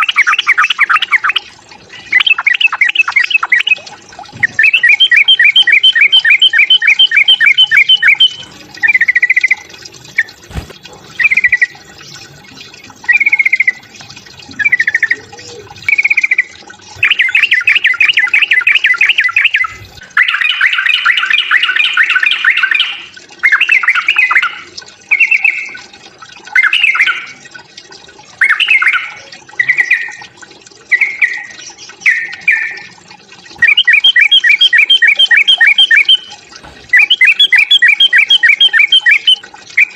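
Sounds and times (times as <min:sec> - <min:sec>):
bulbul bubbling chatter song: 0:00.0 - 0:39.9.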